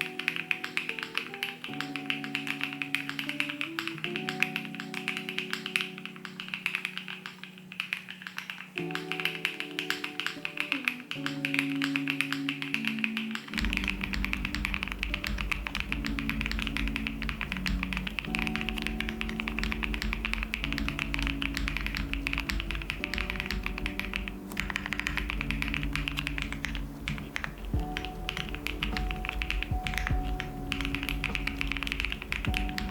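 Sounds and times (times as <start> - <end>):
background music: 0.0 - 32.9
mechanical keyboard typing: 0.0 - 32.9.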